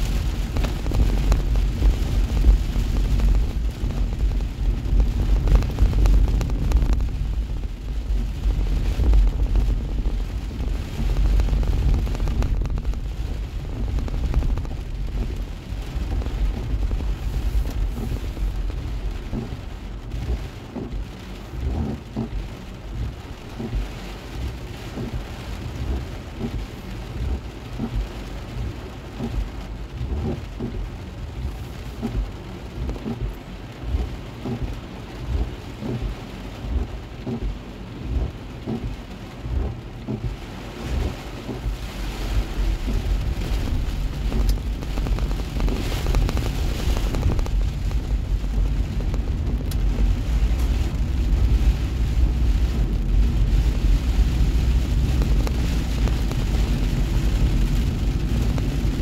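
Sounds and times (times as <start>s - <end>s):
heavy rain drumming on car roof: 0.0s - 59.0s
tyres rumbling on wet road: 0.0s - 59.0s
wind: 0.0s - 59.0s
windshield wipers sweeping: 0.0s - 59.0s.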